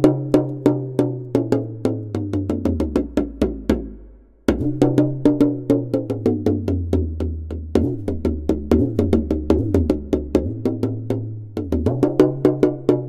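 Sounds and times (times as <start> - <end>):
background music with clicky percussion: 0.0 - 13.0.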